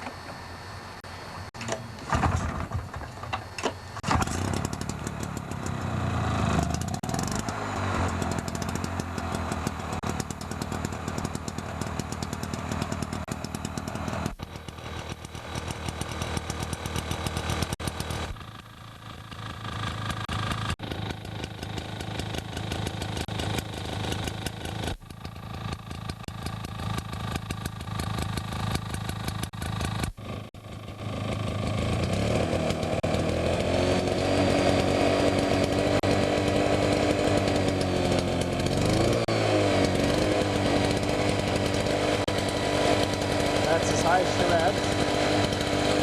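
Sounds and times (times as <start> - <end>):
lawnmower engine revving: 0.0 - 46.0.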